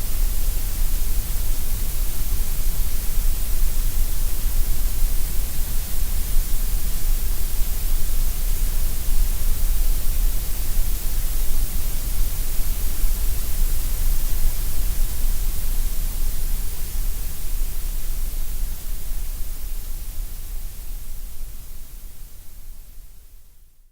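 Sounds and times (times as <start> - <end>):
gray noise hiss: 0.0 - 23.9.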